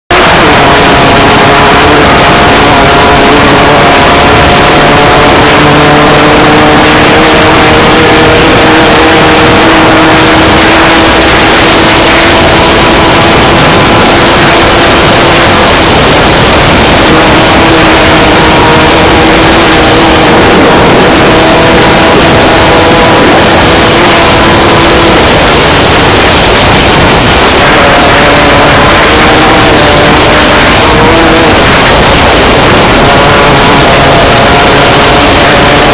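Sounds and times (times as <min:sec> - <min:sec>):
heavy rush of noise: 0:00.0 - 0:35.9
race car engine at high revs: 0:00.0 - 0:35.9.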